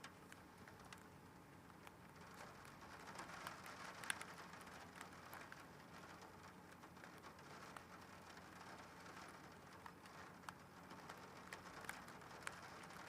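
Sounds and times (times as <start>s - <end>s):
faint rain: 0.0s - 13.0s
raindrops ticking: 0.0s - 13.0s.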